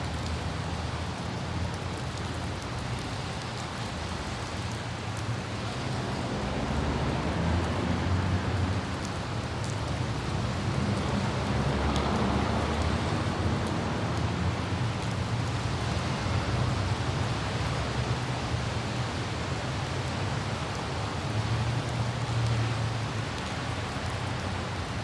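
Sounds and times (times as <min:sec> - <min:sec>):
light rain falling: 0:00.0 - 0:25.0
road and wind noise: 0:00.0 - 0:25.0.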